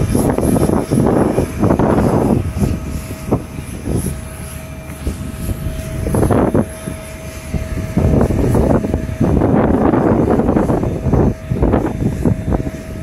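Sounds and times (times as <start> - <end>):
jet engines at low power: 0.0 - 13.0
wind buffeting microphone: 0.0 - 13.0.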